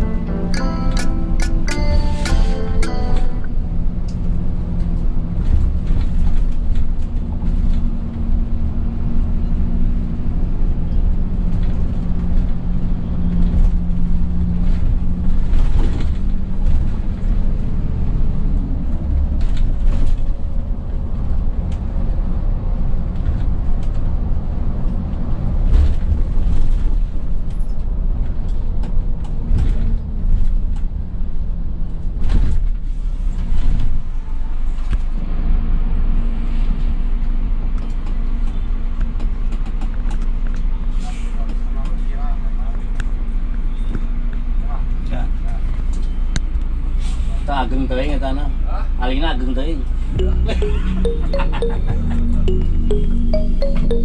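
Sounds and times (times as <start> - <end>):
coach engine and tyre rumble: 2.5 - 49.0.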